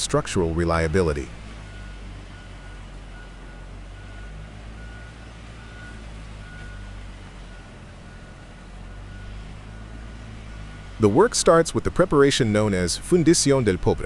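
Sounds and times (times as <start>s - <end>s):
engine humming: 0.0s - 14.0s
vehicle reversing alarm beeping: 0.0s - 14.0s.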